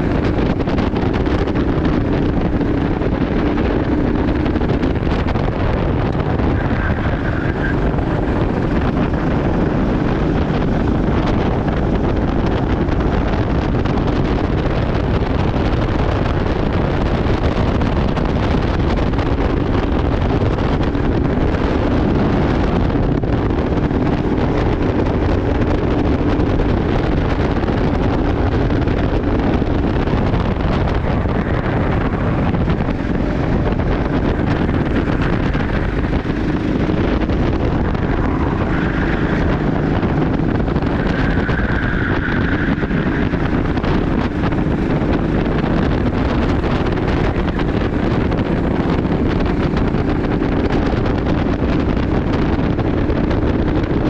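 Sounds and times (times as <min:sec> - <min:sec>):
go-kart engine running: 0:00.0 - 0:54.0
wind buffeting microphone: 0:00.0 - 0:54.0.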